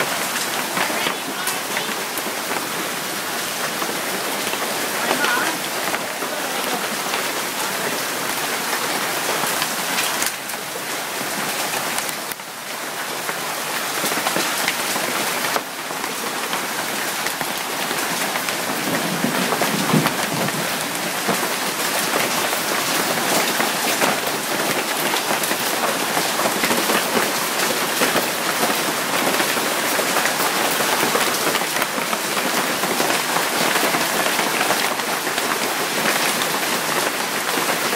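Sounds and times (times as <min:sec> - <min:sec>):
hail and rain pattering: 0:00.0 - 0:37.9.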